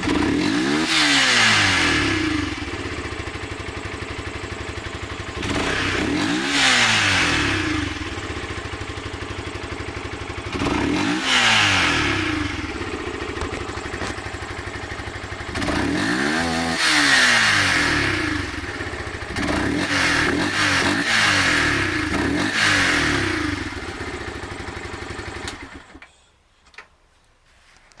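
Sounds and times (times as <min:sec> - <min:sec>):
motorcycle engine idling and revving: 0:00.0 - 0:26.1.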